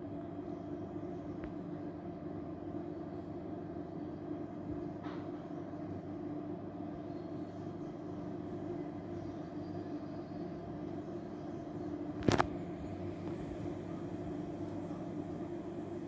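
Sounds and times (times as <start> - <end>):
electrical hum with steady tones: 0.0 - 16.0.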